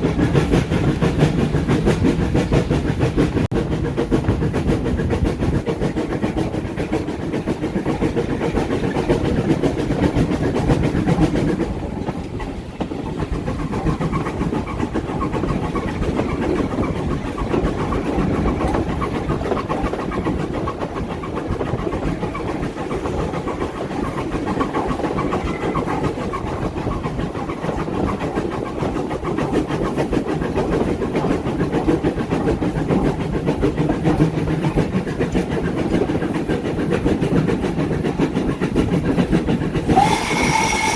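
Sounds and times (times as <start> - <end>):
train rumbling along tracks: 0.0 - 40.9.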